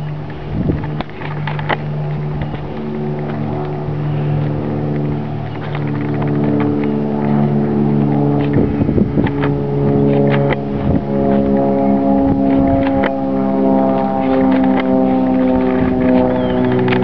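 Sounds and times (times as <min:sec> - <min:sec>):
airplane engine droning overhead: 0:00.0 - 0:17.0.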